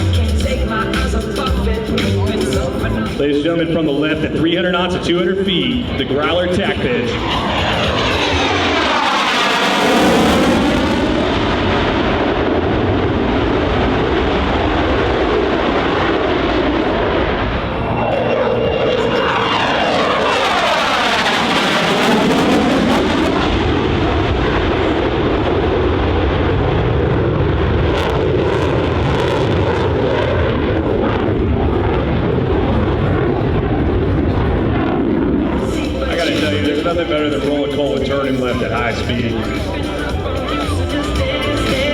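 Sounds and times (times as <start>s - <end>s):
jet roar in low pass: 3.2s - 40.3s.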